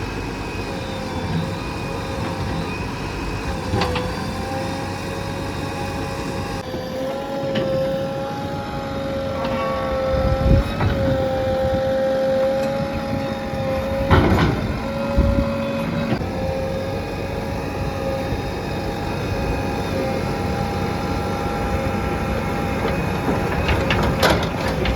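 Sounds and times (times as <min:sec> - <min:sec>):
backhoe engine and hydraulics whine: 0:00.0 - 0:24.9.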